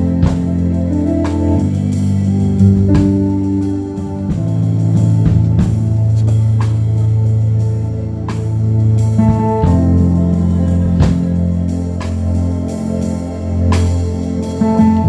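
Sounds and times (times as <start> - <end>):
light percussion: 0.0 - 15.0
organ-like chords: 0.0 - 15.0.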